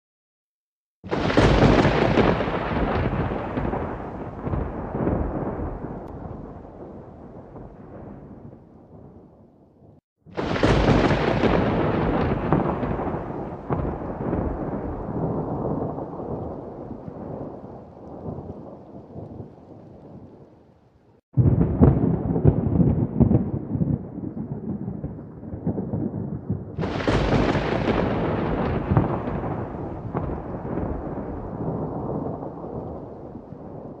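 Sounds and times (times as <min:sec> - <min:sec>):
thunder crack: 0:01.0 - 0:09.3, 0:10.3 - 0:20.2, 0:21.4 - 0:34.0
thunder rumbling: 0:01.0 - 0:20.6, 0:21.4 - 0:34.0.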